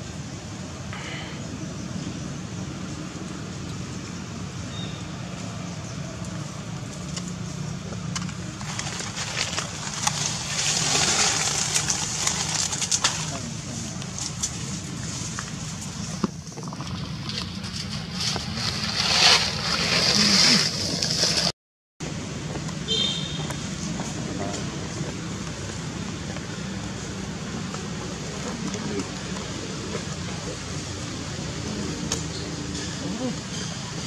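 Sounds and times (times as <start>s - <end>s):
rustling and crackling of leaves: 0.0s - 34.0s.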